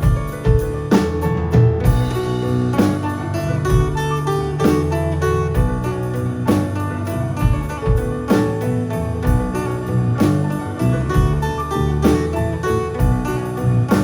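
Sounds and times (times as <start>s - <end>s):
live band playing: 0.0s - 14.0s
steady drum beat: 0.0s - 14.0s.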